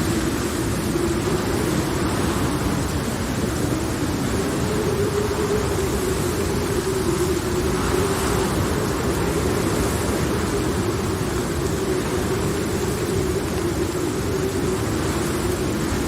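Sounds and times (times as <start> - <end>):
low storm rumble: 0.0 - 16.0.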